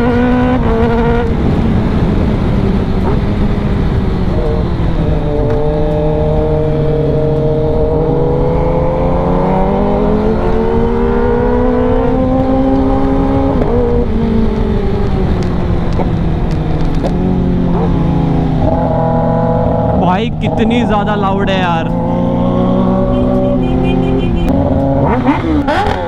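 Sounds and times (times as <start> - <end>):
motorcycle engine at speed: 0.0 - 26.0.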